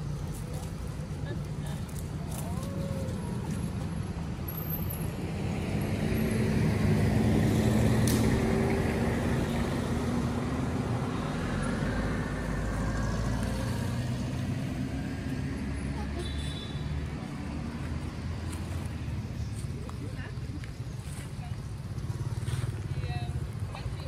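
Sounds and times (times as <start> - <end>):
vehicle engine passing: 0.0 - 24.0.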